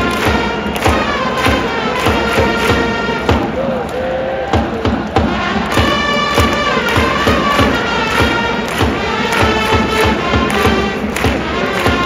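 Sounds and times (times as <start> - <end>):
trumpets playing in unison: 0.0 - 3.6, 5.3 - 12.0
steady drum beat: 0.0 - 3.8, 4.5 - 12.0.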